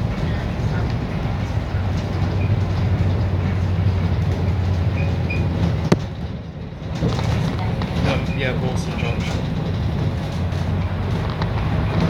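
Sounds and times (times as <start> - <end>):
bus engine and road drone: 0.0 - 12.0.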